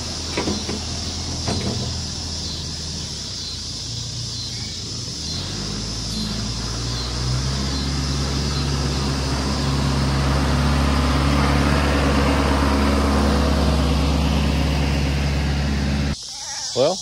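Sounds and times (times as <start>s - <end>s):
tractor diesel engine driving past: 0.0s - 16.2s.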